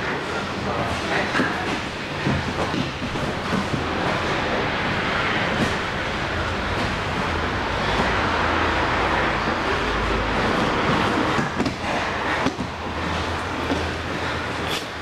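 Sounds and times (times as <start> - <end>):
passing vehicles: 0.0 - 15.0.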